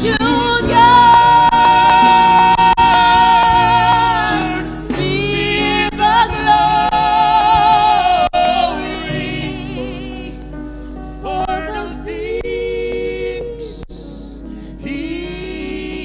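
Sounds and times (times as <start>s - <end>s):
gospel singing: 0.0s - 14.0s, 14.6s - 16.0s
keyboard and band accompaniment: 0.0s - 15.8s.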